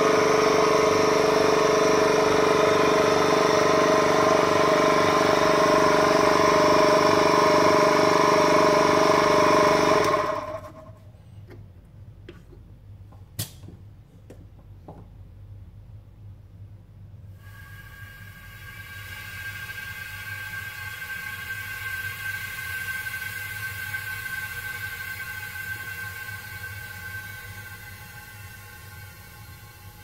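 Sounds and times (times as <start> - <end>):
vacuum pump humming: 0.0 - 11.6, 17.4 - 30.0.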